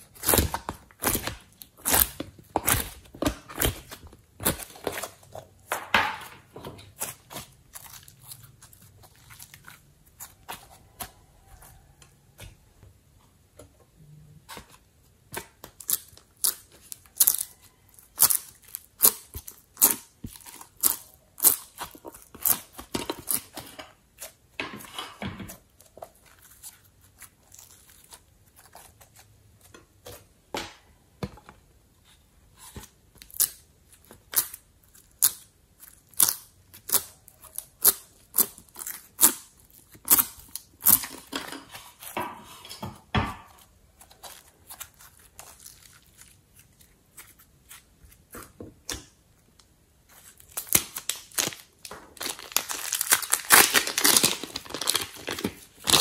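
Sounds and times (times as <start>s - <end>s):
slime crunching and crackling: 0.0s - 12.8s, 15.3s - 24.7s, 25.5s - 29.8s, 32.6s - 42.2s, 43.5s - 49.2s, 50.0s - 56.0s.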